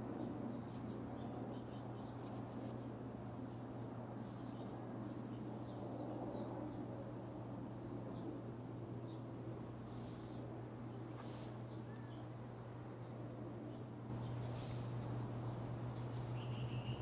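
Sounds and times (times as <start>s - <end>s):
steady low hum: 0.0s - 17.0s
small birds chirping: 0.1s - 7.0s, 7.6s - 17.0s.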